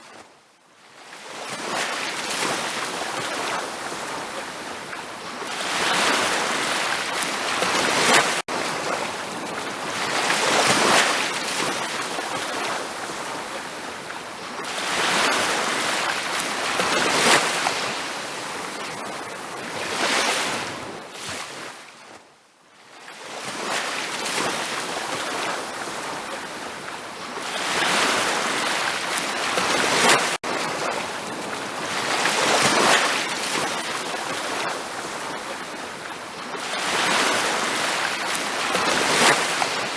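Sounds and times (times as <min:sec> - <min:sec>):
ocean waves washing onto beach: 0:00.8 - 0:22.2, 0:22.8 - 0:39.9.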